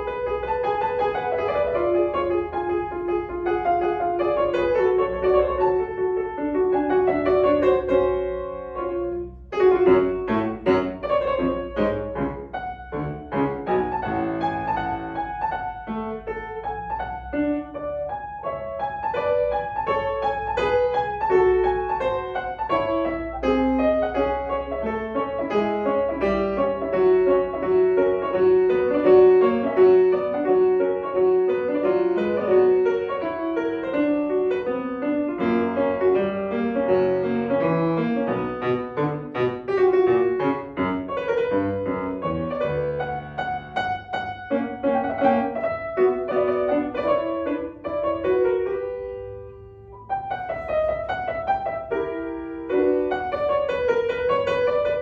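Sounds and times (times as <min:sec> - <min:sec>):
grand piano playing quick notes: 0:00.0 - 0:55.0.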